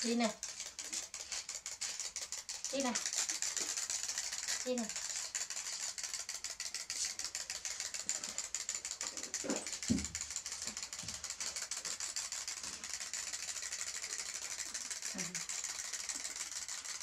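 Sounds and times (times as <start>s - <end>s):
clockwork toy ticking and clicking: 0.0s - 17.0s.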